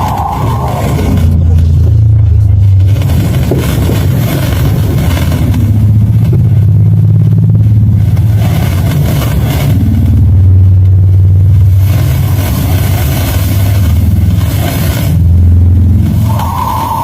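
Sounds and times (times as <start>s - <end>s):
deep steady drone: 0.0s - 17.0s.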